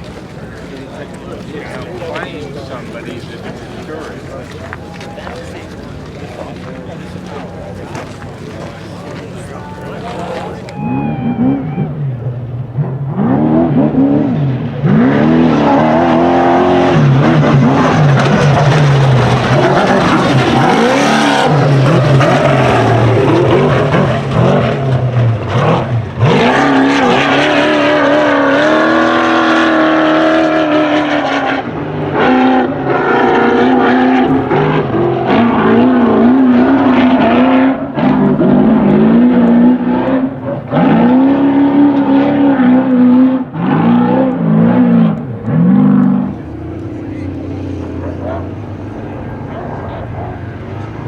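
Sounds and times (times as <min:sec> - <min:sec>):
truck engine at high revs: 0:00.0 - 0:51.0.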